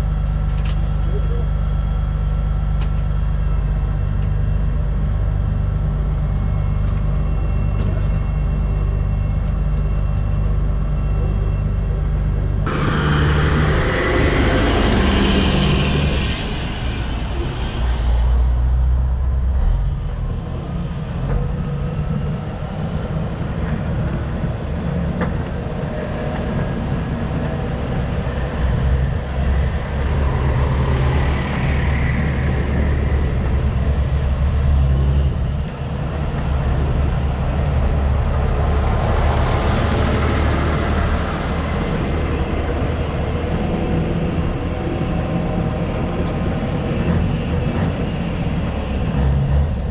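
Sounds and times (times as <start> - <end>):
truck engine rumbling: 0.0 - 49.9.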